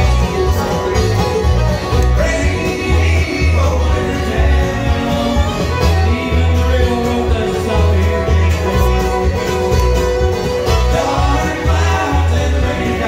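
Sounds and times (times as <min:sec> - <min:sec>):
bass line: 0:00.0 - 0:13.0
fiddle bowed: 0:00.0 - 0:13.0
strummed acoustic guitar: 0:00.0 - 0:13.0.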